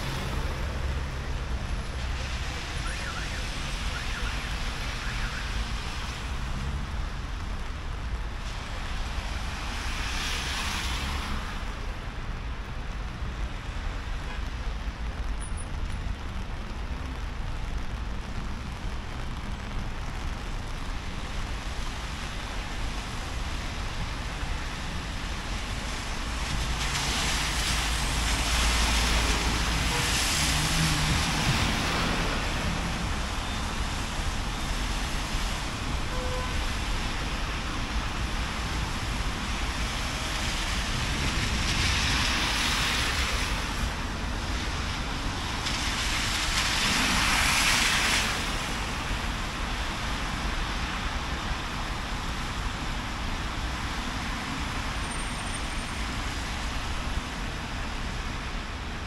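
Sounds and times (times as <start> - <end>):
cars passing with tyre hiss: 0.0 - 16.5, 20.1 - 59.0
low traffic rumble: 0.0 - 59.0.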